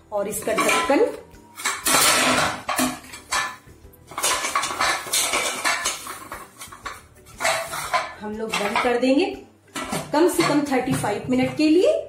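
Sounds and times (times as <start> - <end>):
metal cookware clattering: 0.2 - 12.0.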